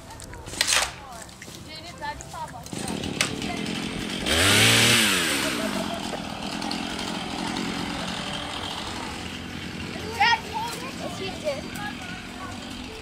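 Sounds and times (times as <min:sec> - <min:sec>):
chainsaw revving and idling: 0:02.5 - 0:13.0.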